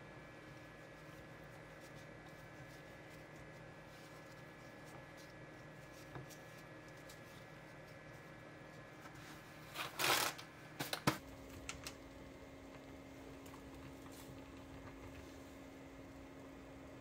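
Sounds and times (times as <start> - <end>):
cooktop low hum: 0.0 - 17.0
faint steady hum: 0.0 - 17.0.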